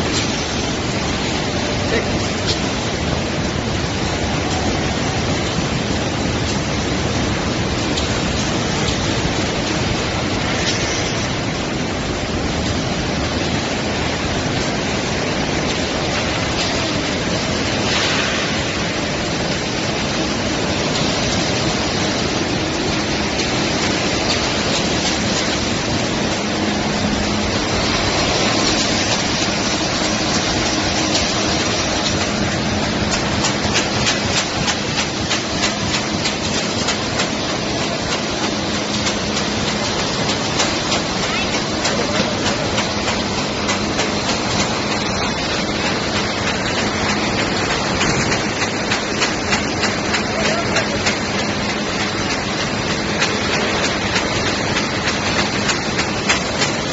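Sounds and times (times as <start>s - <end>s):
machinery running: 0.0s - 56.9s.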